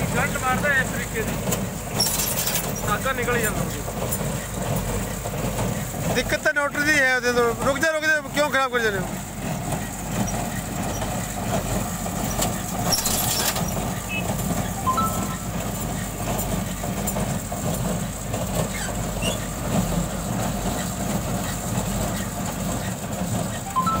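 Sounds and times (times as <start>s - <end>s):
baler mechanical clatter: 0.0s - 24.0s
tractor engine running: 0.0s - 24.0s.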